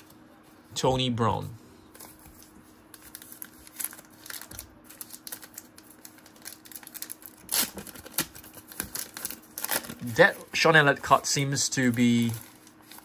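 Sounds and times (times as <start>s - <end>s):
card rustle: 1.9s - 13.0s.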